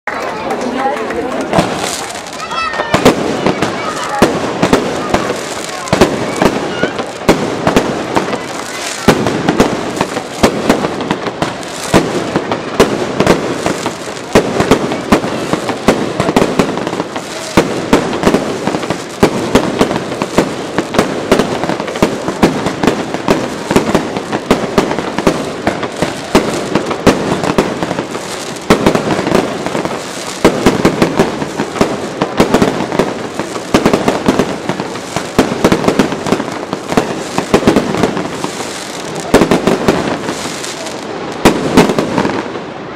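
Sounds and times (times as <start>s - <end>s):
fireworks bangs with crackling: 0.1s - 42.9s.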